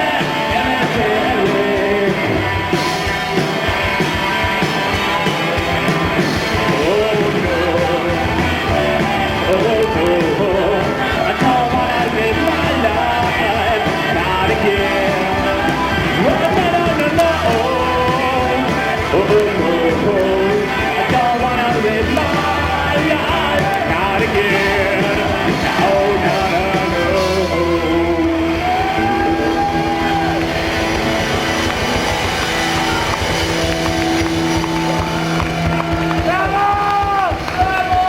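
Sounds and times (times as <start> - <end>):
bass guitar: 0.0 - 38.0
drums: 0.0 - 38.0
electric guitars: 0.0 - 38.0.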